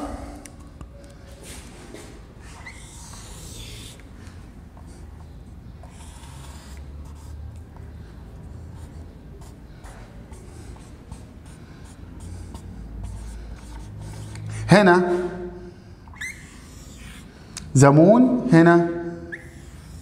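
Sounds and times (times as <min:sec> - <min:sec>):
marker scratching on whiteboard: 0:02.0 - 0:17.6, 0:19.2 - 0:20.0.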